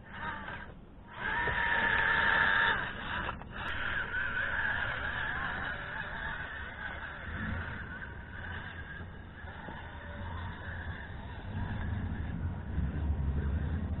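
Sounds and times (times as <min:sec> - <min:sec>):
electric motor and gears whining: 0:00.0 - 0:14.0.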